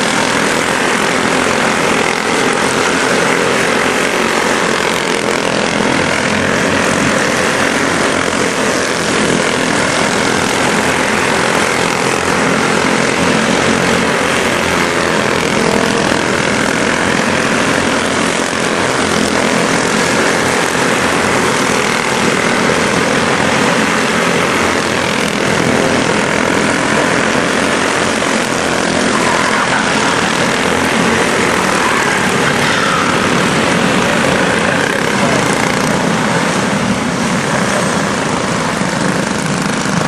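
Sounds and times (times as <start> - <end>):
small race car engines buzzing: 0.0 - 40.0.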